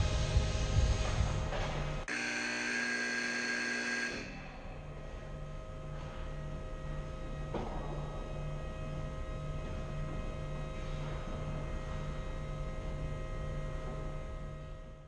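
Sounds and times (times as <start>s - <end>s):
building machinery hum: 0.0s - 15.0s.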